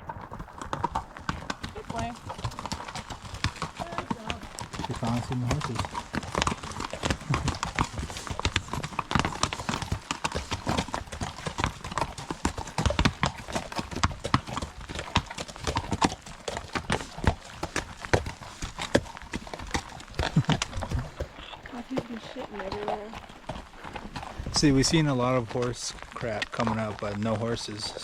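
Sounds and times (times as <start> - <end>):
horse hooves clip-clopping: 0.0 - 28.0.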